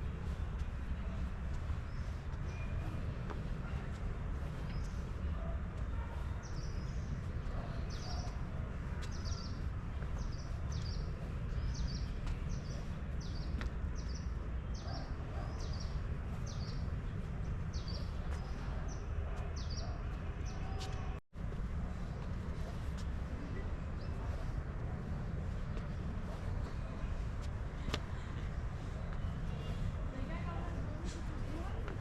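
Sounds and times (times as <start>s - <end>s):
low outdoor rumble: 0.0s - 20.0s, 21.4s - 32.0s.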